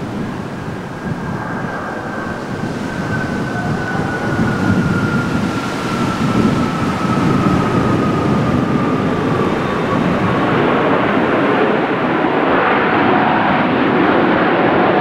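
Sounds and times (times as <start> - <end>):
high jet engine whine: 0.0 - 15.0
jet engine rumble: 0.0 - 15.0.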